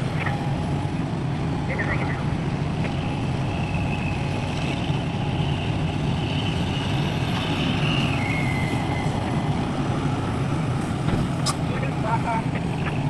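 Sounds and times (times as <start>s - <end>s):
high whine: 0.0s - 10.7s.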